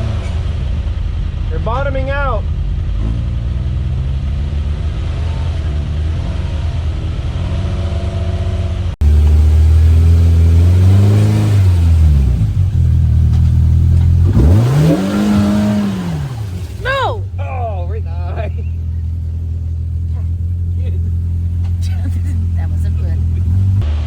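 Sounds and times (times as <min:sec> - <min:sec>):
utility vehicle engine revving: 0:00.0 - 0:01.1, 0:02.5 - 0:24.0.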